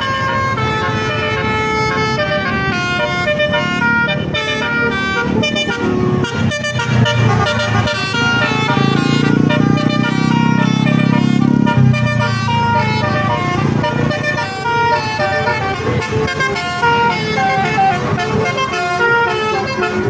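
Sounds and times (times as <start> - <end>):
bus engine running: 0.0 - 20.0
musical bus horn tune: 0.0 - 20.0.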